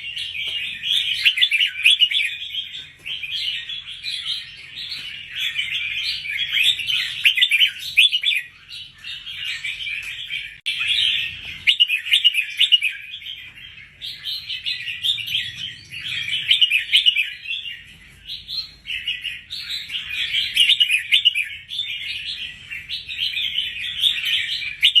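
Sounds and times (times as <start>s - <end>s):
bird chirping song: 0.0s - 25.0s.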